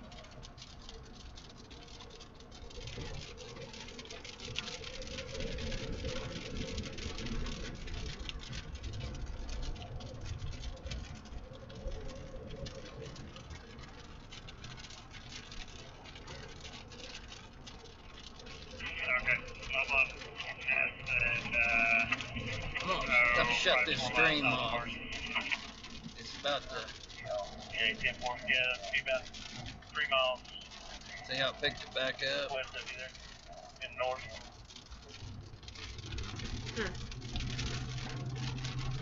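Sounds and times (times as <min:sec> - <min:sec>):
rain pattering on car roof: 0:00.0 - 0:39.0
road noise rumble: 0:00.0 - 0:39.0.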